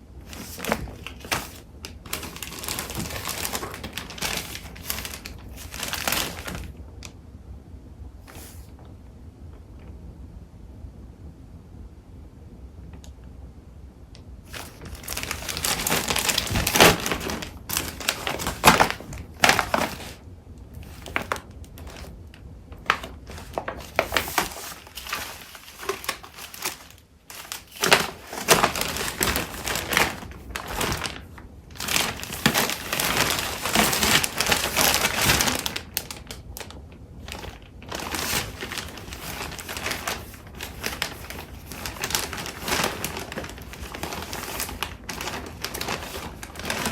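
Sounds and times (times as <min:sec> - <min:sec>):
paper and packaging rustling: 0:00.2 - 0:06.8, 0:08.3 - 0:08.7, 0:14.5 - 0:20.2, 0:20.8 - 0:46.9.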